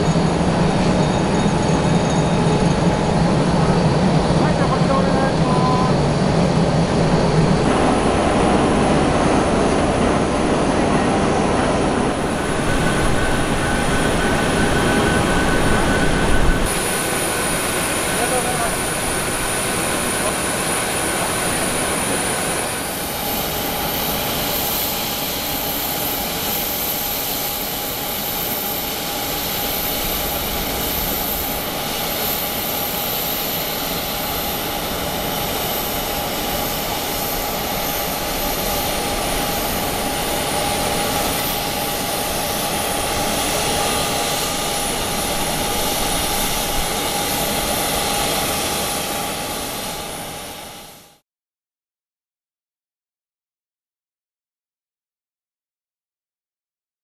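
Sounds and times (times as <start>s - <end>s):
jet aircraft rumble and whine: 0.0s - 51.2s.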